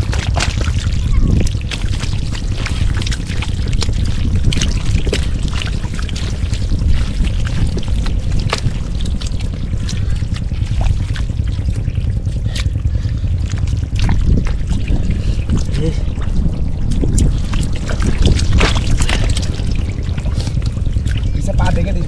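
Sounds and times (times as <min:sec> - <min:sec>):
sharp splashes and knocks: 0:00.0 - 0:22.0
steady low rumble: 0:00.0 - 0:22.0
water splashing and trickling: 0:00.0 - 0:22.0.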